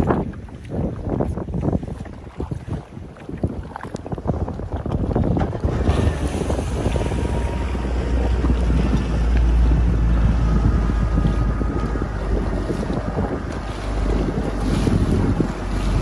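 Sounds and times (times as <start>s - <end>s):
sea water sloshing and splashing: 0.0s - 16.0s
wind buffeting microphone: 0.0s - 16.0s.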